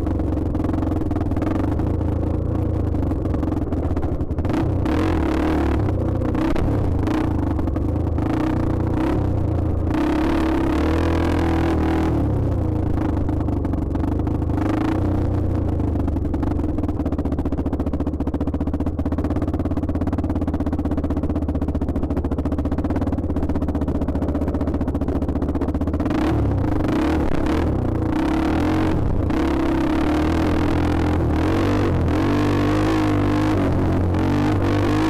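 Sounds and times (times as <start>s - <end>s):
dirt bike engine running hard: 0.0s - 35.0s.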